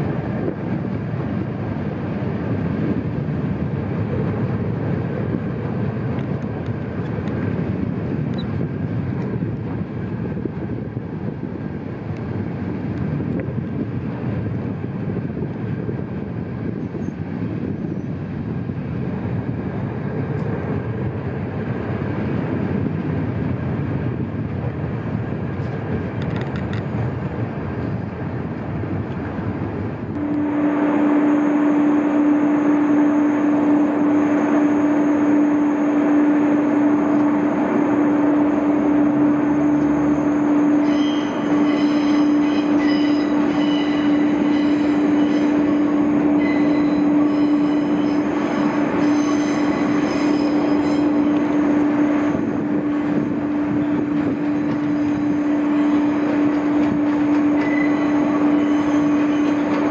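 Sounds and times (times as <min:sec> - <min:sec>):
electric train humming: 0:00.0 - 0:59.9.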